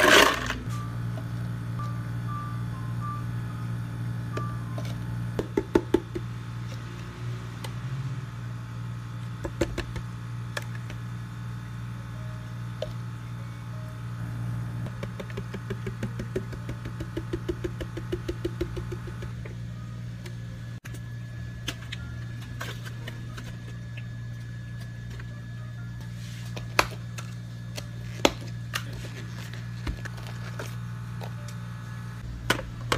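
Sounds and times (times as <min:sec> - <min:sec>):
kitchen equipment hum: 0:00.0 - 0:32.9.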